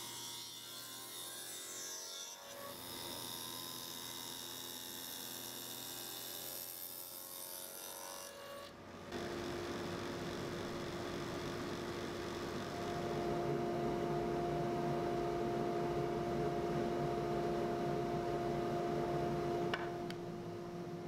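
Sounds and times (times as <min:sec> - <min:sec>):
table saw cutting wood: 0:00.0 - 0:20.2.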